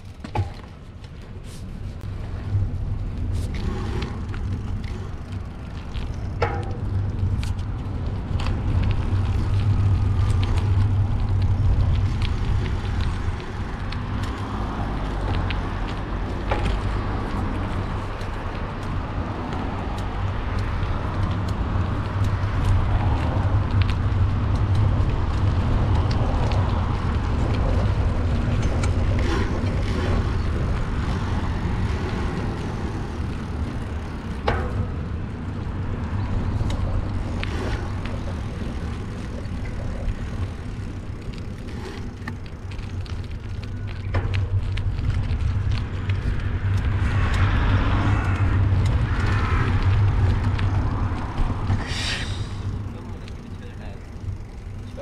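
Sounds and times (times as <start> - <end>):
bike road noise: 0.0 - 55.0
wind buffeting microphone: 0.0 - 55.0.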